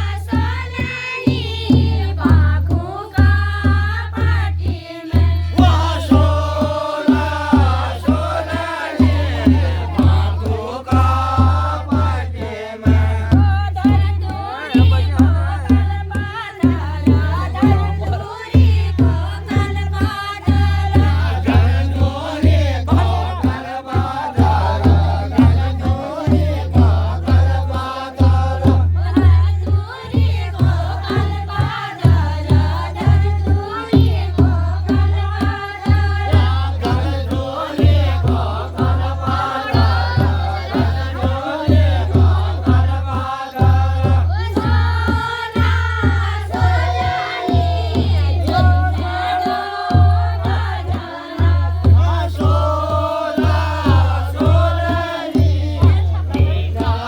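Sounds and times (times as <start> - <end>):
driving drum beat: 0.0 - 57.0
group of voices singing: 0.0 - 57.0.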